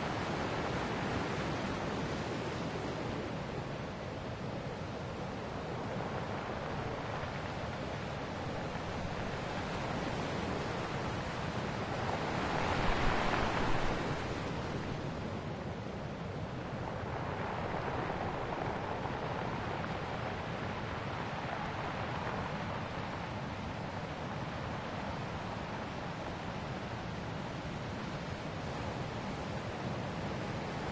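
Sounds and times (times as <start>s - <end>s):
ocean waves washing on shore: 0.0s - 30.9s.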